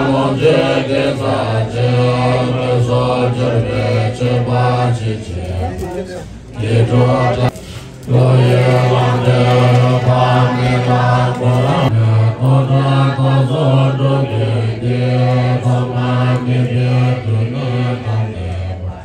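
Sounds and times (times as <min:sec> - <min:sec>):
group chanting prayers in unison: 0:00.0 - 0:19.0.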